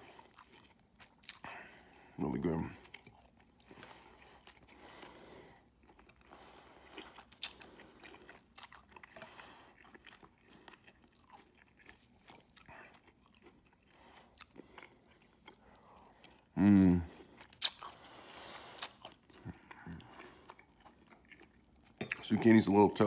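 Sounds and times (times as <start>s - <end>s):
chewing with wet mouth clicks: 0.0s - 16.5s, 17.3s - 22.5s.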